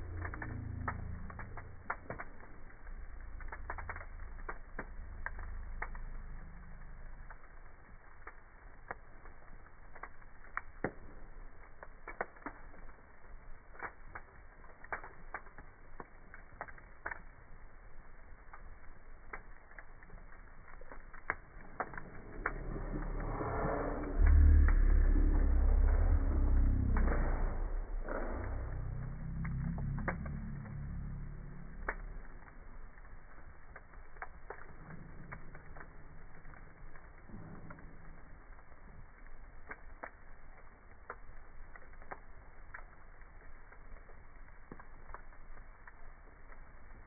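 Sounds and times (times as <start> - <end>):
low rumble: 0.0 - 11.6, 19.5 - 47.0
wood fire crackling and popping: 0.0 - 47.0.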